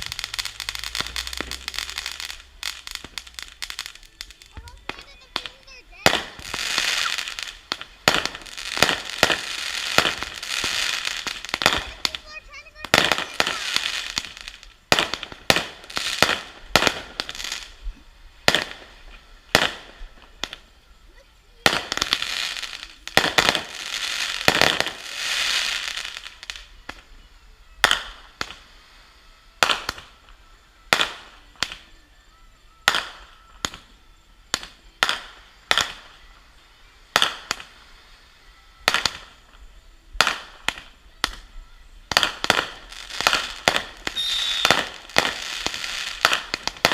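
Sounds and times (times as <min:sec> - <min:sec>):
fireworks banging: 0:00.0 - 0:20.8, 0:21.5 - 0:27.2, 0:27.8 - 0:28.8, 0:29.6 - 0:31.9, 0:32.8 - 0:36.4, 0:37.1 - 0:37.9, 0:38.8 - 0:41.5, 0:42.1 - 0:46.9
fireworks crackling: 0:00.0 - 0:46.9.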